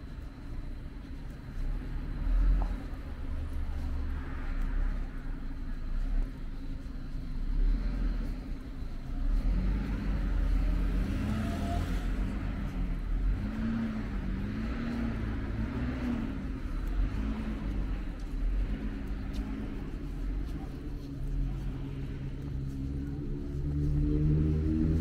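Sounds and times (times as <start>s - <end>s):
motor vehicles passing: 0.0s - 25.0s
wavering engine hum: 0.0s - 25.0s.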